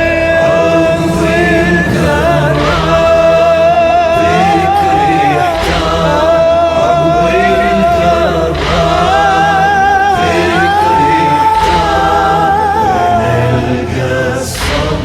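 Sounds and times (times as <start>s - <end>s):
low musical backing: 0.0s - 15.0s
voices chanting: 0.0s - 15.0s.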